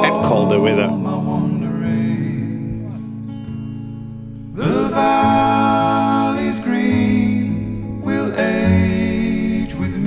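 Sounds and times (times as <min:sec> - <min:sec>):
song with acoustic guitar: 0:00.0 - 0:10.0.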